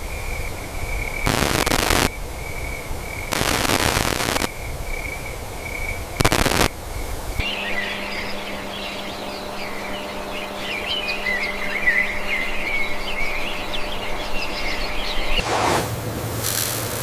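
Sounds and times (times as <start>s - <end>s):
steady low hum: 0.0s - 16.4s
birds chirping: 0.4s - 15.4s.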